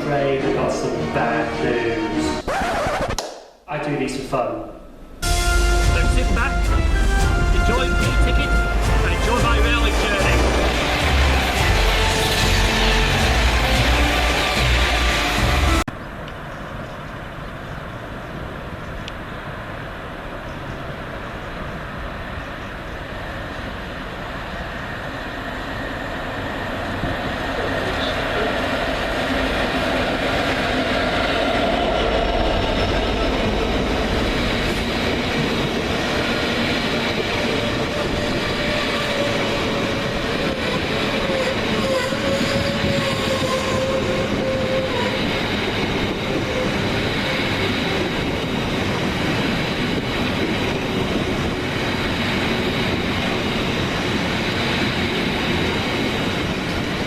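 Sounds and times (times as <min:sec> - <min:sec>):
train engine running: 0:05.2 - 0:15.9, 0:19.4 - 0:57.0
train wheel noise: 0:05.2 - 0:15.9, 0:18.4 - 0:57.0.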